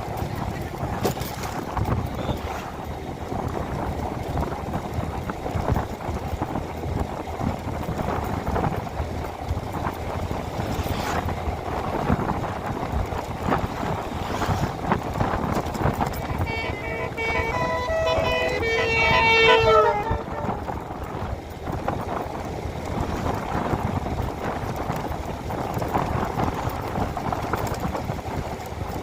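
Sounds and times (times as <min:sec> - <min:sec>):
vehicle and road rumble: 0:00.0 - 0:29.0
wind buffeting microphone: 0:00.0 - 0:29.0.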